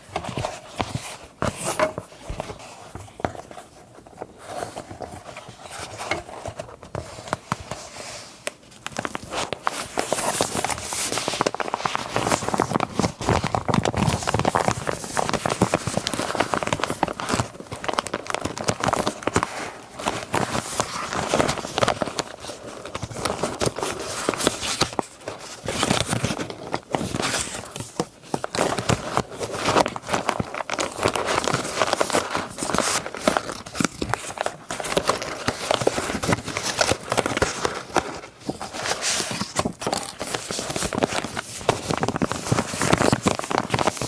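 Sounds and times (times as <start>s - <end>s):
paper rustling and crinkling: 0.0s - 44.0s.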